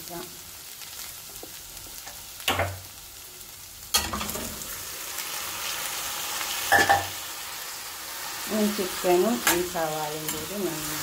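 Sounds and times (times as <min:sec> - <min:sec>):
steady frying: 0:00.0 - 0:11.0.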